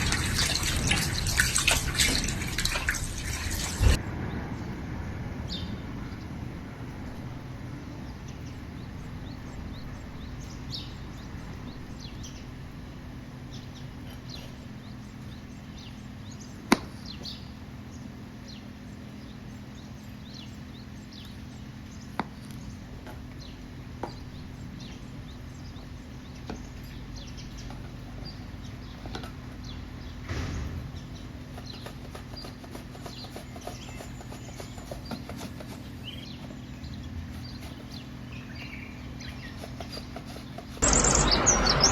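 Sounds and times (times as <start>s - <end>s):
birds chirping: 0.0s - 6.5s, 7.7s - 41.9s.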